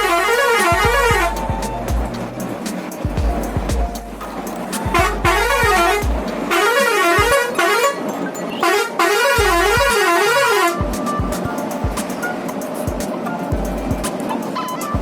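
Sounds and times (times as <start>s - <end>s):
music with thumping beat: 0.0s - 7.6s, 9.3s - 14.3s
warbling vehicle horn: 0.0s - 12.8s.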